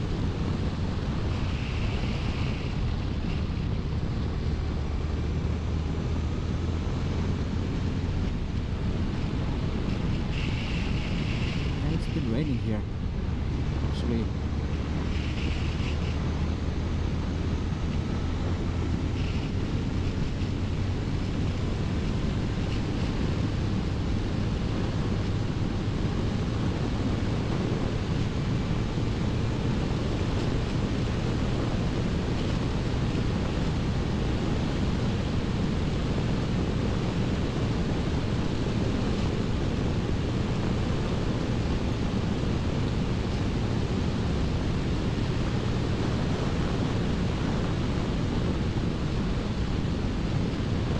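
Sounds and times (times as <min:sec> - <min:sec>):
wind noise on microphone: 0:00.0 - 0:50.9.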